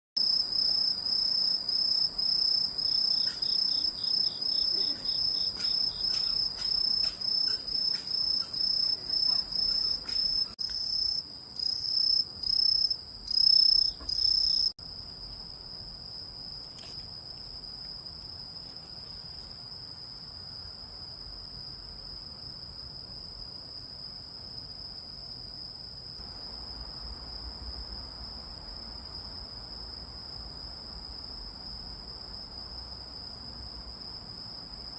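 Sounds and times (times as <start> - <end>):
faint high insect trill: 0.2 - 34.9
insect chirping: 0.2 - 34.9.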